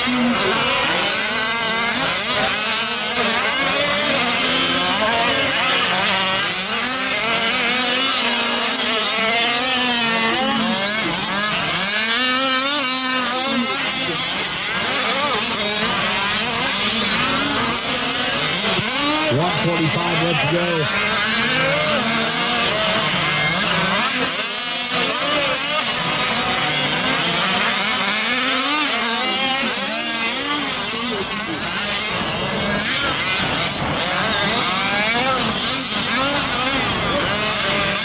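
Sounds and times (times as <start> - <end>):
small two-stroke engines revving: 0.0 - 38.0.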